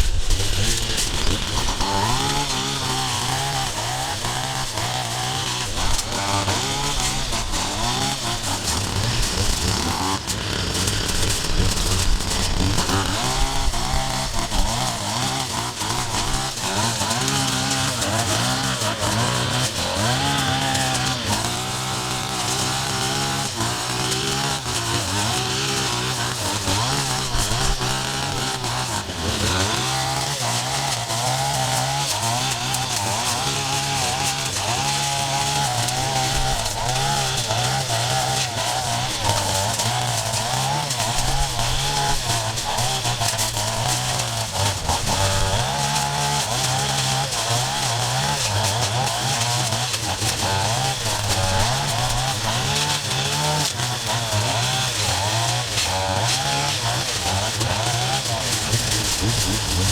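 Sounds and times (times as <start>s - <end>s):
small petrol engine revving: 0.0s - 59.9s.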